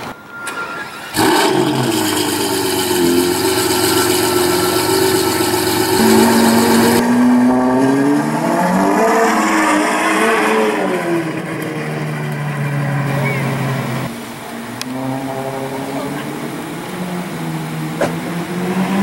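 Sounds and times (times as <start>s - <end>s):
car engine revving: 0.8s - 19.0s.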